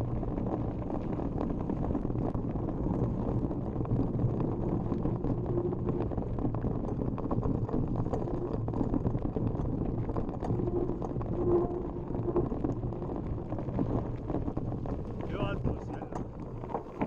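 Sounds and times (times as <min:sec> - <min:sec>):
bike rattles and clicks: 0:00.0 - 0:17.0
bike tyres on loose dirt: 0:00.0 - 0:17.0
wind rush on microphone: 0:00.0 - 0:17.0.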